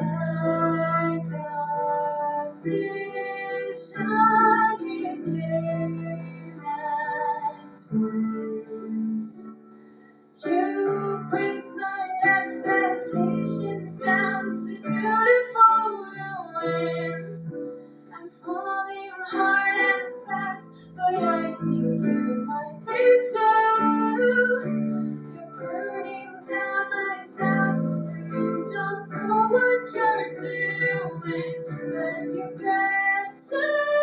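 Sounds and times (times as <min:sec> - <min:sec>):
woman singing: 0:00.0 - 0:09.6, 0:10.4 - 0:34.0.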